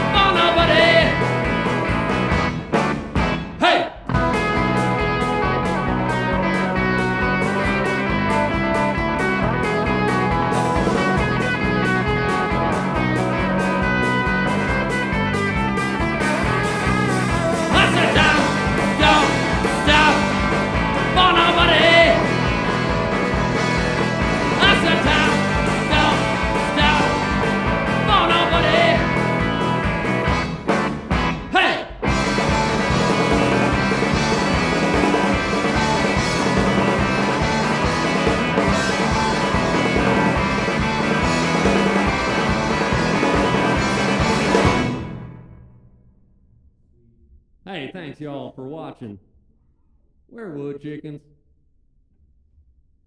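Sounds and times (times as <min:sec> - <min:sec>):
drum kit: 0:00.0 - 0:45.4
rock band playing live: 0:00.0 - 0:45.7
bending electric guitar lead: 0:00.0 - 0:45.8
electric bass: 0:00.0 - 0:48.3.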